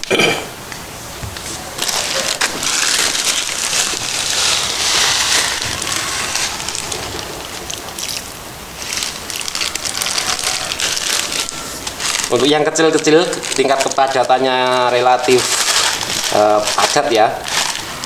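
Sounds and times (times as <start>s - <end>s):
feed pellets pattering into water: 1.8s - 18.0s.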